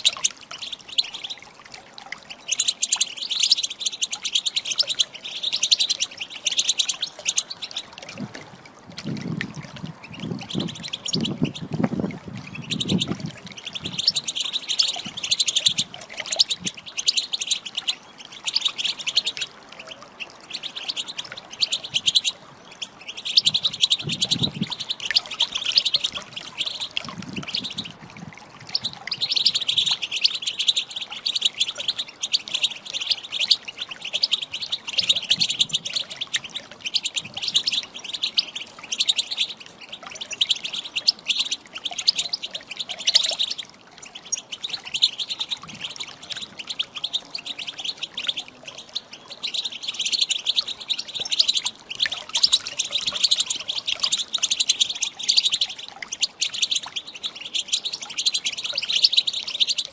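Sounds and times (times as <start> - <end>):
goldfinch twittering: 0.0 - 1.5, 2.2 - 59.9.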